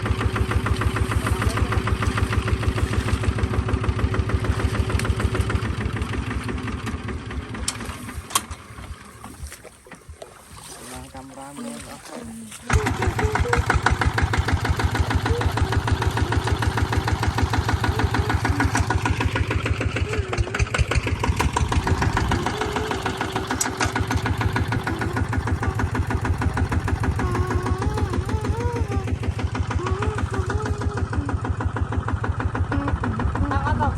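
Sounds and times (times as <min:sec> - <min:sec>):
tractor engine running: 0:00.0 - 0:10.8, 0:12.2 - 0:33.9.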